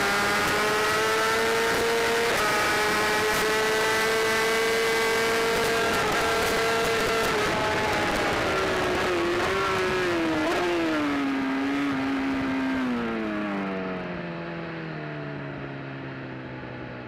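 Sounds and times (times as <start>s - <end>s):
motorcycle engine decelerating: 0.0s - 17.0s.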